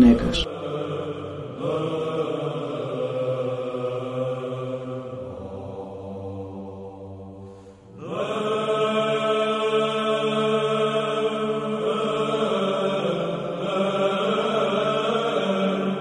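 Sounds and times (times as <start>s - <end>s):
voices chanting long notes: 0.0s - 6.4s, 7.9s - 16.0s.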